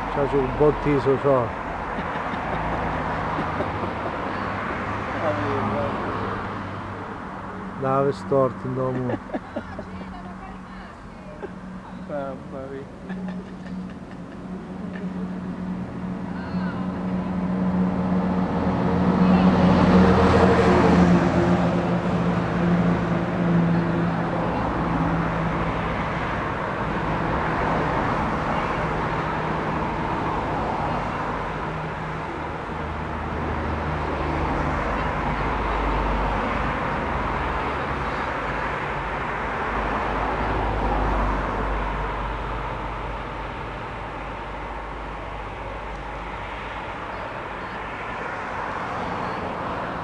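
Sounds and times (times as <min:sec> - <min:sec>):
engine hum: 0:00.0 - 0:50.0
vehicle engines passing: 0:00.0 - 0:50.0.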